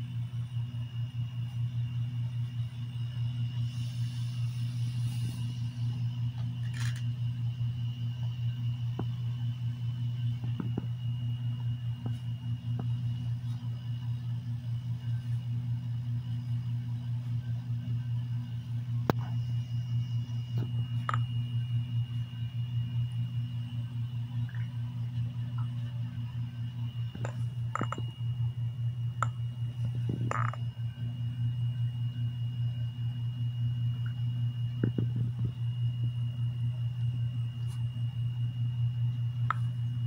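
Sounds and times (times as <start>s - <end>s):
faint high whine: 0.0s - 40.0s
room machinery hum: 0.0s - 40.0s.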